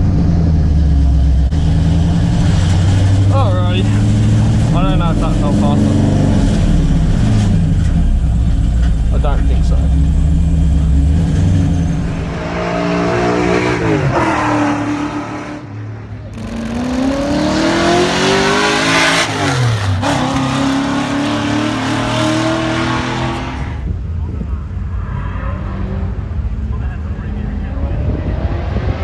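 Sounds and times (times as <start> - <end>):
race car engine accelerating: 0.0 - 23.9.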